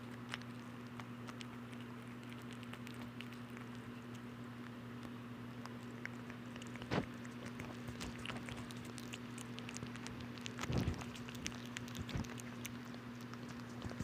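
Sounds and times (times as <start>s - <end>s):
kitten chewing and licking: 0.0s - 14.0s.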